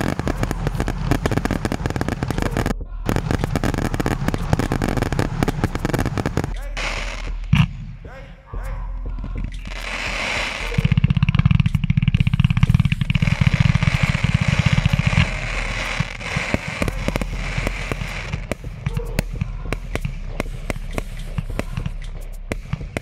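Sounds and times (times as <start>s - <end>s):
fireworks crackling and popping: 0.0s - 8.0s, 9.2s - 23.0s.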